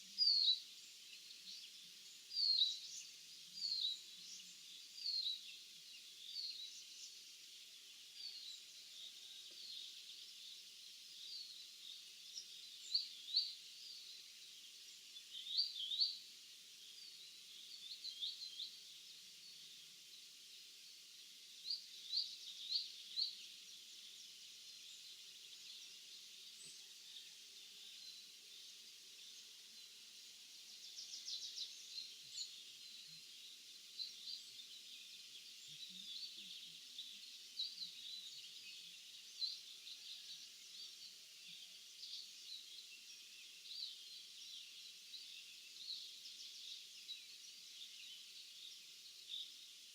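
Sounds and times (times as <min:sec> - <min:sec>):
steady high hiss: 0:00.0 - 0:49.9.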